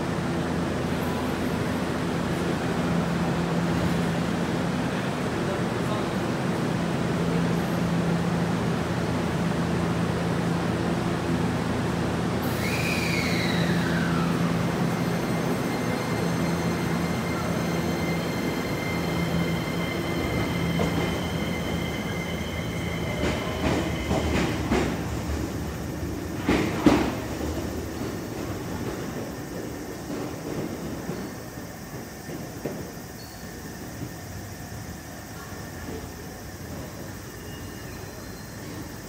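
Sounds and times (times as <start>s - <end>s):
electric train hum: 0.0s - 39.0s.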